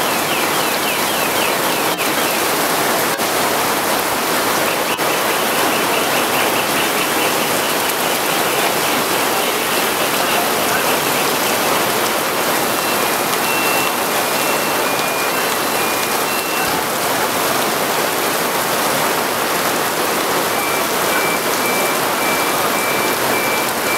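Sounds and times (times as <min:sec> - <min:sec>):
heavy rain on paving and awnings: 0:00.0 - 0:23.9.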